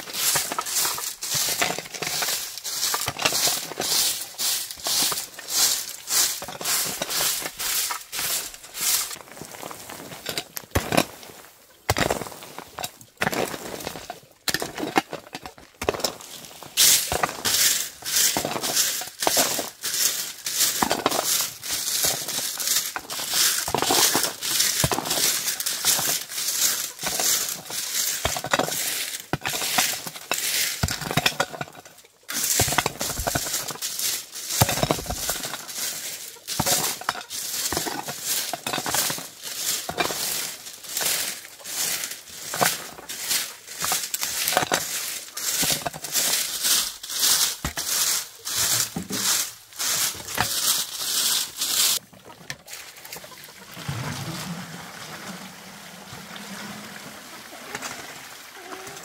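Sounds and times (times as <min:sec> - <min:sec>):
crackling and crunching: 0:00.0 - 0:54.1.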